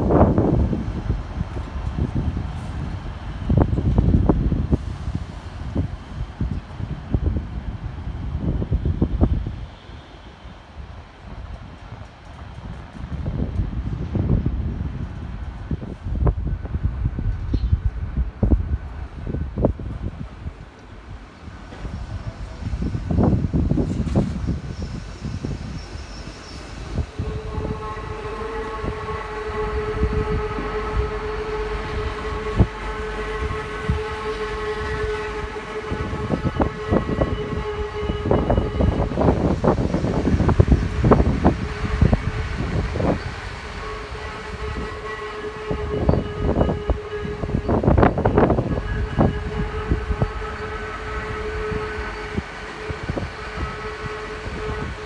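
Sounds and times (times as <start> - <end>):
train running gear hum: 0.0 - 55.0.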